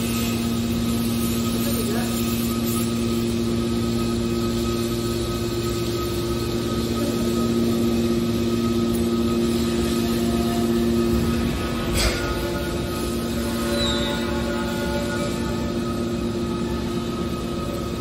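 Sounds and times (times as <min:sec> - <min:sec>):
hydraulic baler pump hum: 0:00.0 - 0:18.0
hydraulic ram whine: 0:00.0 - 0:18.0.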